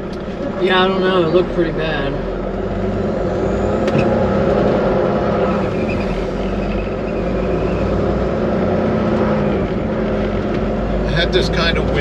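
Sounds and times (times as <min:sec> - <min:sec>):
road and wind noise: 0:00.0 - 0:12.0
truck diesel engine running: 0:00.0 - 0:12.0.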